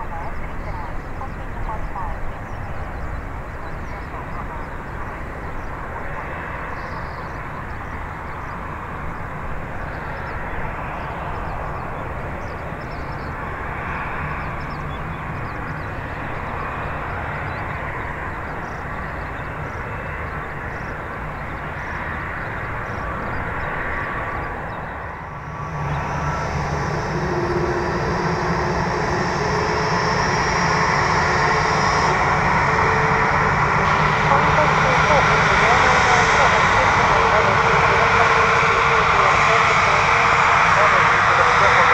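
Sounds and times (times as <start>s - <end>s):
jet engine whine: 0.0s - 41.9s
jet engines running: 0.0s - 41.9s.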